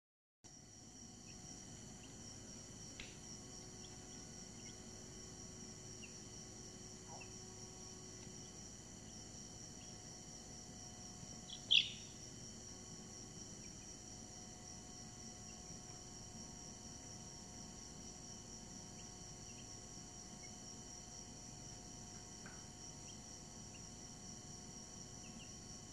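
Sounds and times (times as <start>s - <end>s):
steady high-pitched whine: 0.6s - 25.9s.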